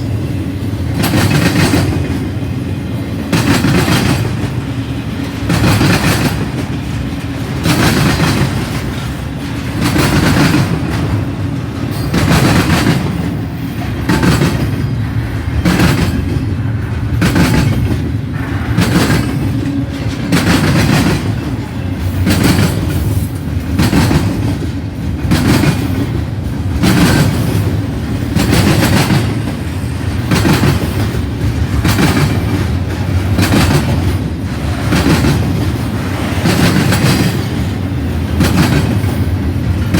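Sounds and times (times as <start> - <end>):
low train rumble: 0.0 - 39.9
train wheels clacking on rail joints: 0.0 - 39.9.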